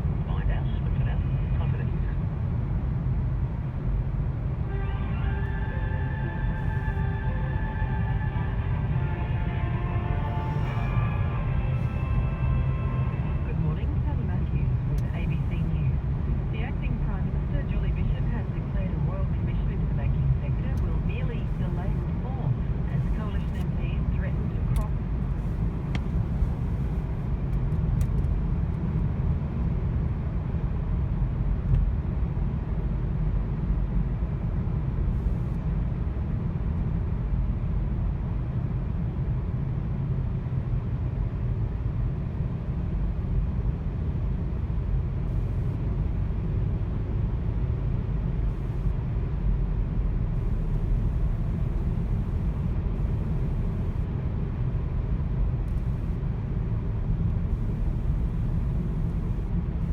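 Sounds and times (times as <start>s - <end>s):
low engine rumble: 0.0s - 59.9s
road noise: 0.0s - 59.9s.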